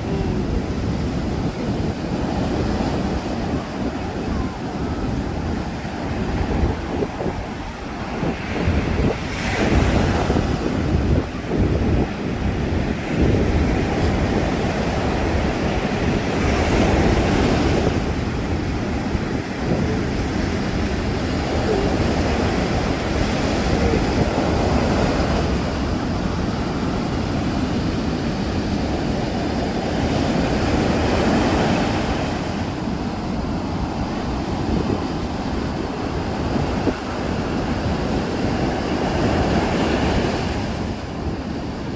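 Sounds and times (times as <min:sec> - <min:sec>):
sea waves breaking on beach: 0:00.0 - 0:41.9
wind rumble on microphone: 0:00.0 - 0:41.9.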